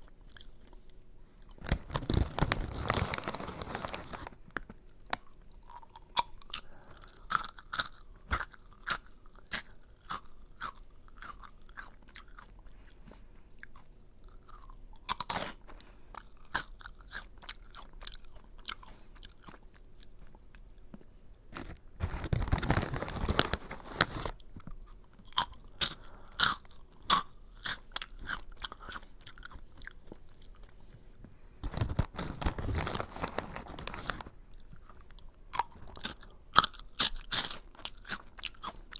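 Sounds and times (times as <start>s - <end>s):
chewing crunchy snack: 0.0s - 38.9s.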